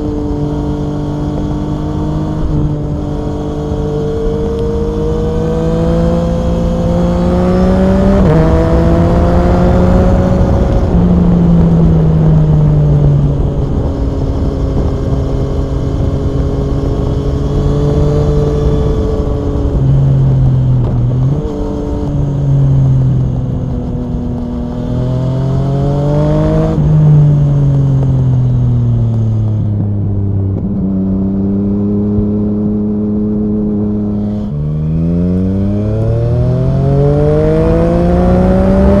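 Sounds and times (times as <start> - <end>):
motorcycle engine revving: 0.0 - 39.0
wind rush: 0.0 - 39.0.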